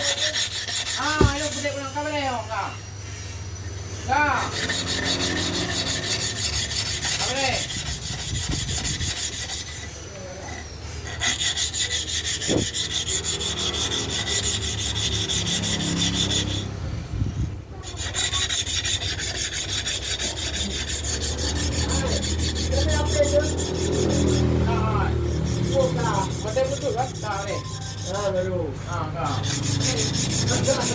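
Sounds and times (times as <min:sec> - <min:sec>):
clipper blade scraping on abrasive: 0:00.0 - 0:02.1, 0:04.4 - 0:16.7, 0:17.8 - 0:30.9.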